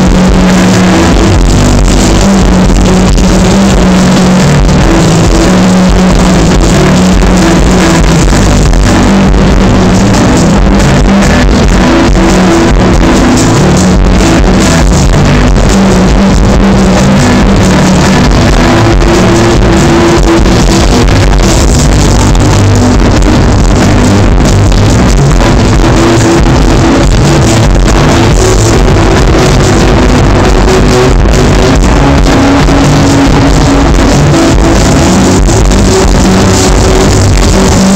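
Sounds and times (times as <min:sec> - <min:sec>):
distorted live rock band: 0:00.0 - 0:37.9.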